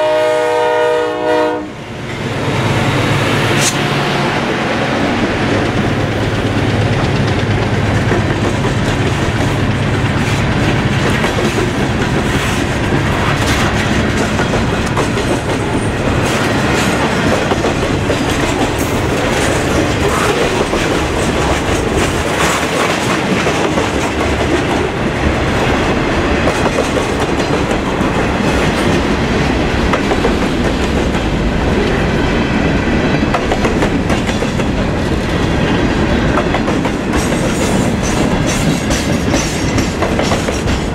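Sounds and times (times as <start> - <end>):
train wheels on rails: 0.0 - 40.9
wheels clicking over rail joints: 5.6 - 31.9, 33.3 - 40.9.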